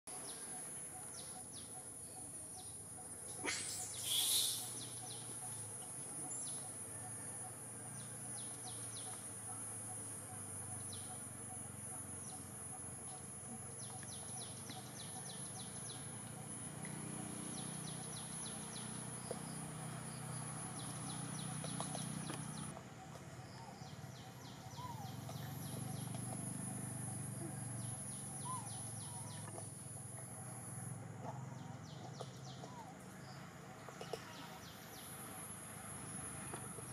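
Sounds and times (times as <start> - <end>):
insects buzzing drone: 0.1 - 36.9.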